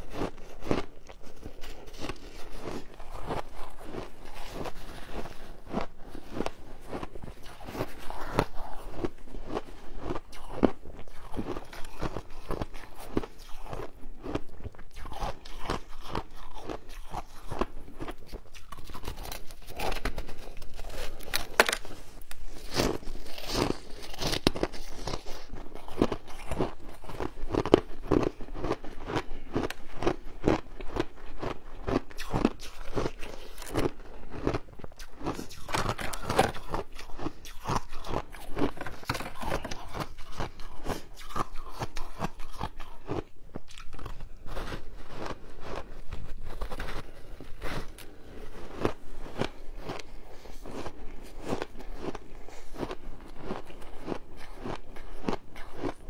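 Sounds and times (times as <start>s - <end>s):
crunching shaved ice: 0.0s - 45.9s.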